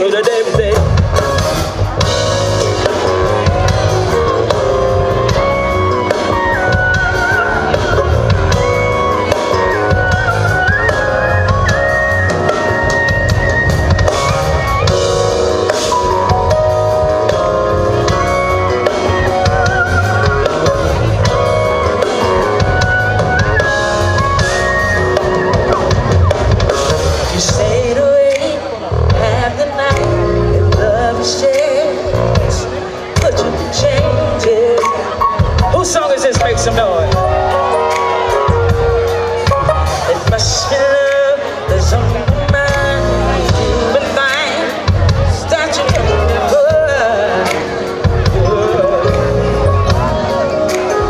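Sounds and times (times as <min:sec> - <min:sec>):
song with drums and guitar: 0:00.0 - 0:51.0.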